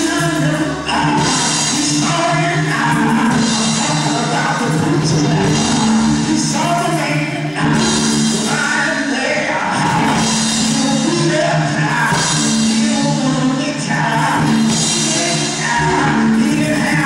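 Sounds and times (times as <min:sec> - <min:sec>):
live instrumental accompaniment: 0:00.0 - 0:17.0
man singing gospel: 0:00.0 - 0:17.0.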